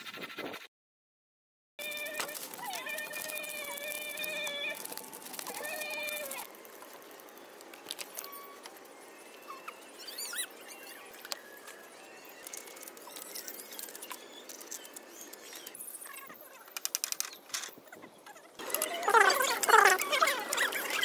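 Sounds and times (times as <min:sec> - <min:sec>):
birds chirping: 0:01.8 - 0:21.0.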